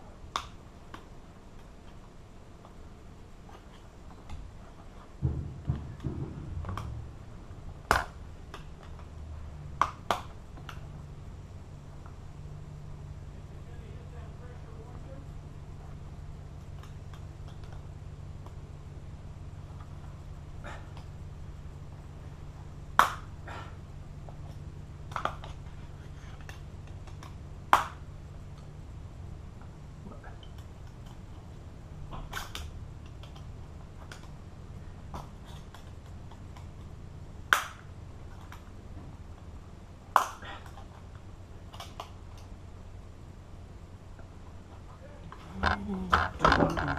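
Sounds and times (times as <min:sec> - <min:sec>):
low rumble of handling: 0:00.0 - 0:46.9
steady low hum: 0:00.0 - 0:46.9.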